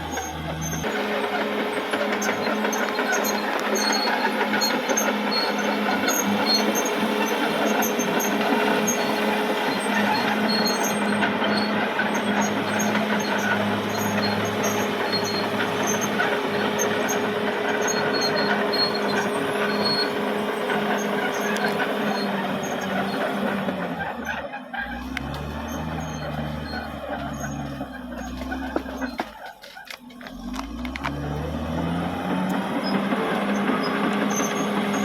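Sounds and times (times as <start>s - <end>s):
dense clattering: 0.0s - 30.9s
bulldozer diesel engine running: 0.0s - 35.0s.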